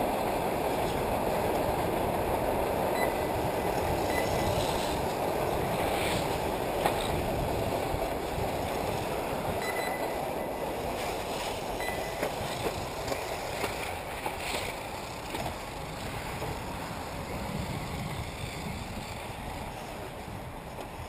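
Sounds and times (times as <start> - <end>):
rc cars tyre and motor noise: 0.0 - 21.0.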